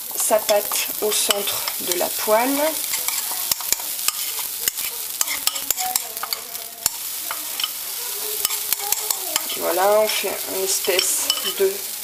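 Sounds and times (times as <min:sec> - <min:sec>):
batter sizzling in a pan: 0:00.0 - 0:12.0.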